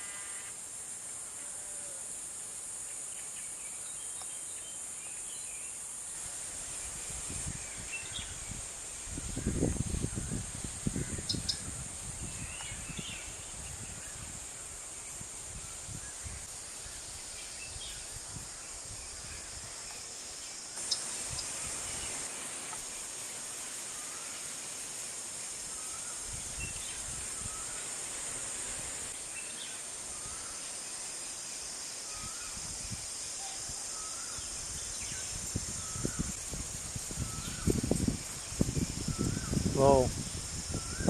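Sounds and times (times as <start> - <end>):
high-pitched ambient hiss: 0.0 - 41.0.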